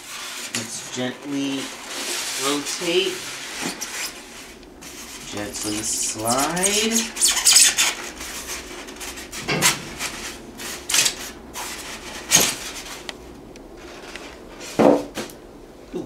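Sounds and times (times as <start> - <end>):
foam scraping against metal: 0.0 - 13.1.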